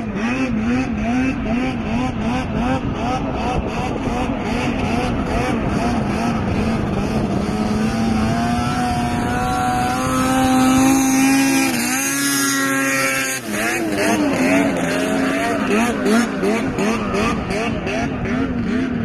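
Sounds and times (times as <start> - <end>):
snowmobile engine passing: 0.0 - 19.0
snowmobile engine warbling: 0.0 - 19.0.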